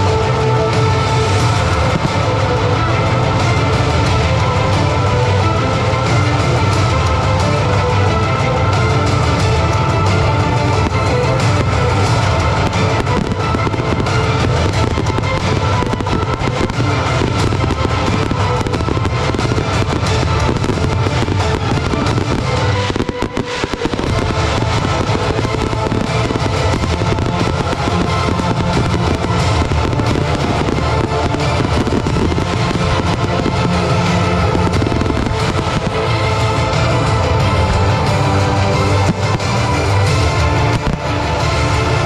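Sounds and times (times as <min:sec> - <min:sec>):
fireworks bursting and crackling: 0:00.0 - 0:42.0
loud music: 0:00.0 - 0:42.0.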